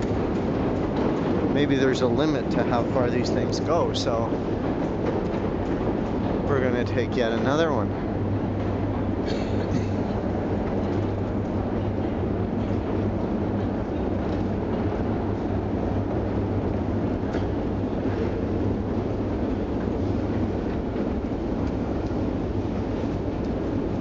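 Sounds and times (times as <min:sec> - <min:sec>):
escalator rumble and hum: 0:00.0 - 0:24.0.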